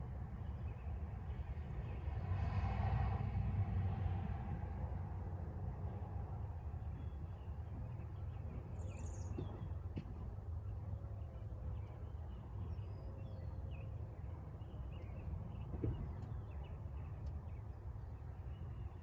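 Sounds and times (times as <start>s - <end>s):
low background rumble: 3.5s - 19.0s.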